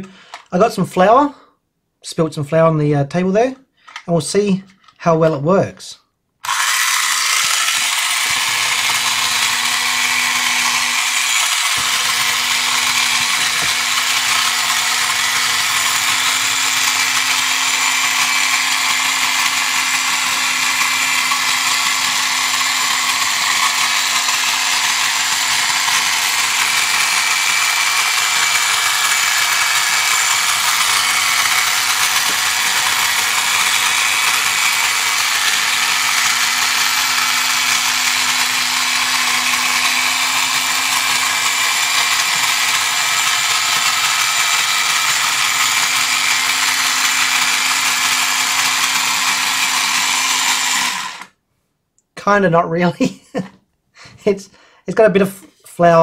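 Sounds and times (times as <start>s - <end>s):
toy robot motor whirring: 6.4s - 51.3s.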